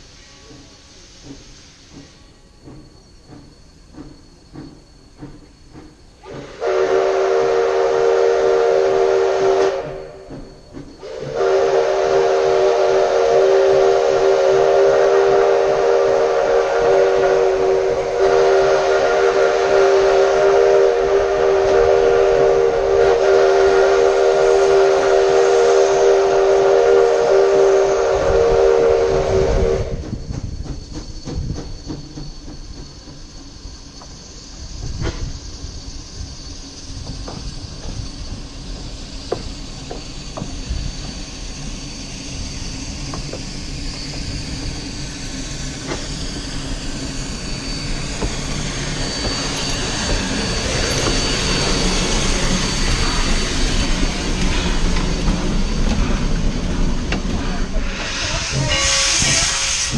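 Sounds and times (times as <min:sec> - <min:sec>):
steam locomotive chime whistle: 0:00.0 - 0:36.8, 0:41.8 - 0:56.2, 0:57.3 - 0:59.9
low rumble of train: 0:00.0 - 0:59.9.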